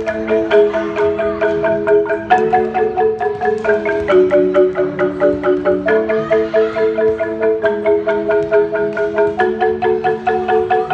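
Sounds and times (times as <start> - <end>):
marimbas playing: 0.0 - 10.9.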